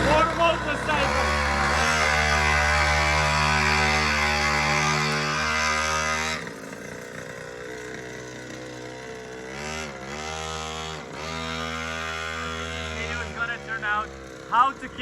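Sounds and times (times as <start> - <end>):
small two-stroke engine running: 0.0 - 15.0.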